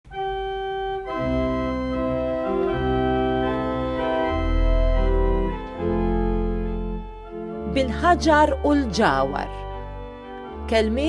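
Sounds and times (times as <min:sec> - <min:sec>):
slow organ music: 0:00.1 - 0:11.0.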